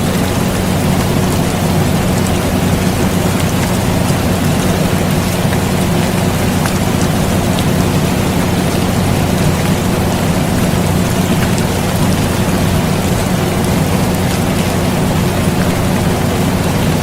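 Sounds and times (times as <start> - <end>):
air conditioner humming: 0.0 - 17.0
rain falling: 0.0 - 17.0.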